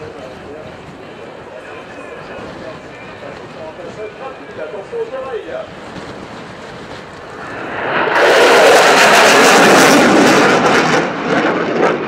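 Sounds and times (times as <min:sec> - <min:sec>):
fighter jet engine roaring: 0:00.0 - 0:12.0.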